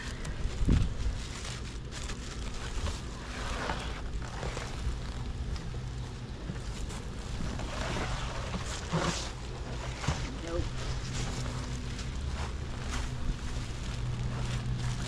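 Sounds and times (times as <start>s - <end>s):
low rumble: 0.0s - 15.0s
packaging rustling and scraping: 0.0s - 15.0s.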